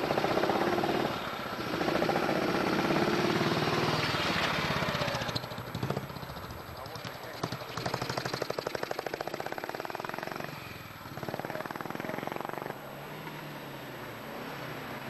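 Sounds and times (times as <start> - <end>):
motorcycle engine pulling away: 0.0 - 15.0.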